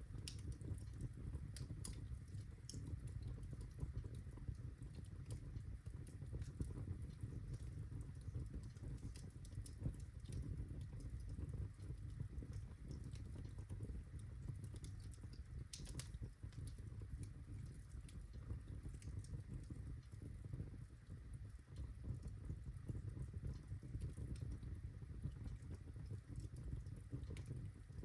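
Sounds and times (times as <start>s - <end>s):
fire crackling and popping: 0.0s - 28.0s
low rumble of burning: 0.0s - 28.0s.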